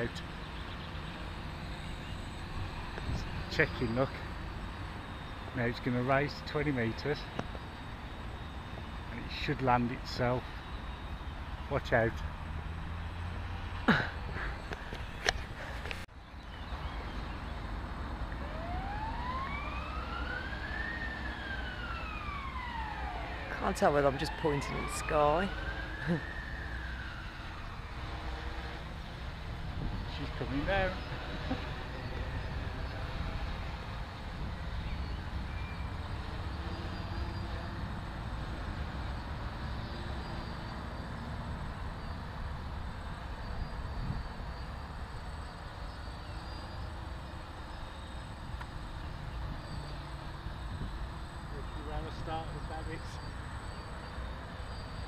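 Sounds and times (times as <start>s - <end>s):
emergency siren wailing: 0.0s - 14.0s, 16.8s - 55.0s
drone propellers humming: 0.0s - 16.0s, 16.8s - 55.0s.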